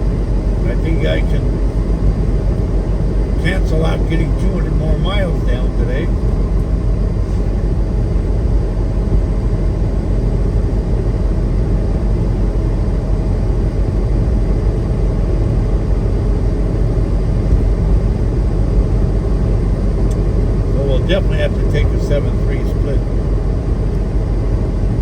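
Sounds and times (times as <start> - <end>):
truck engine and road noise: 0.0 - 25.0.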